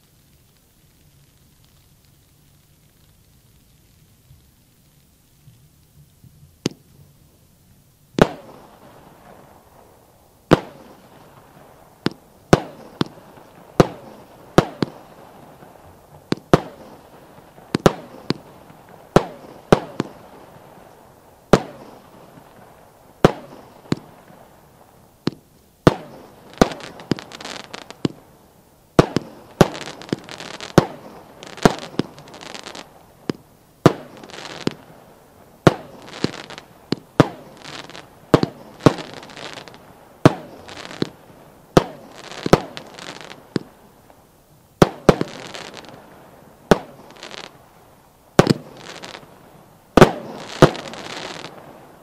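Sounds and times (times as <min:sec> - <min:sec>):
fireworks hissing: 0:00.0 - 0:52.0
fireworks bangs: 0:08.2 - 0:44.2, 0:44.8 - 0:52.0.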